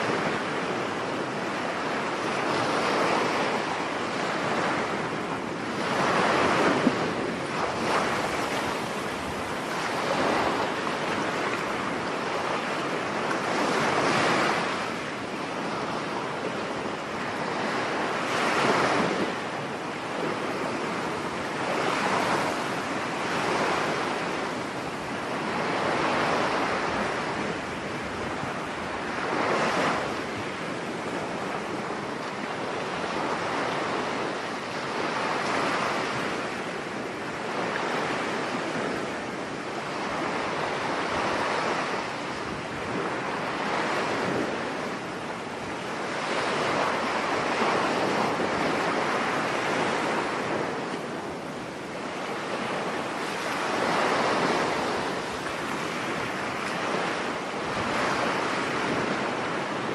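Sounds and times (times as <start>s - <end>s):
waves breaking on beach: 0.0s - 59.9s
wind: 0.0s - 59.9s.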